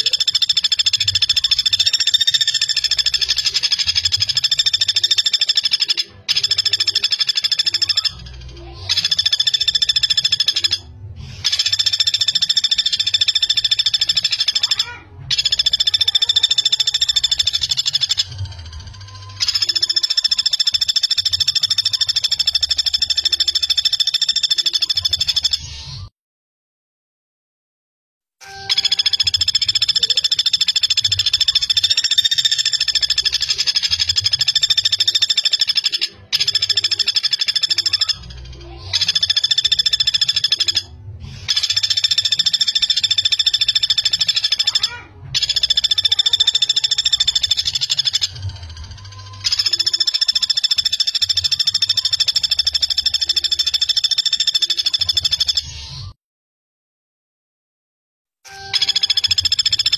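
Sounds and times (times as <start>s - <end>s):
woodpecker rattling trills: 0.0s - 25.7s, 28.6s - 55.7s, 58.6s - 59.9s.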